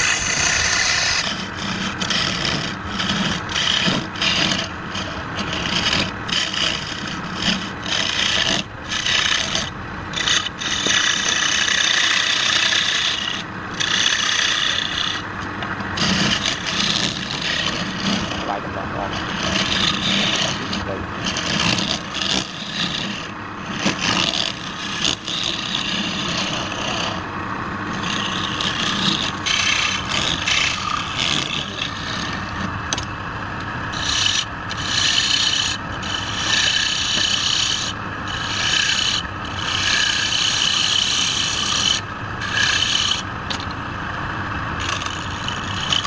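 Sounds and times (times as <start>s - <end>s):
hand tool scraping turning wood: 0.0s - 43.8s, 44.8s - 46.0s
lathe humming: 0.0s - 46.0s.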